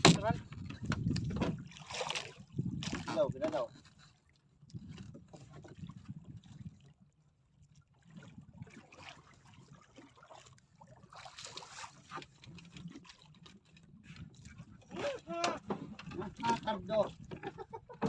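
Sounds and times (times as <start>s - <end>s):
water sloshing around a boat: 0.0s - 18.0s.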